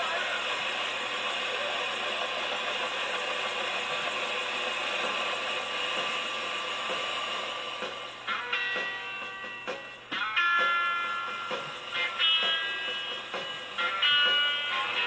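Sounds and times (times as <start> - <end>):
steady engine noise: 0.0 - 15.0.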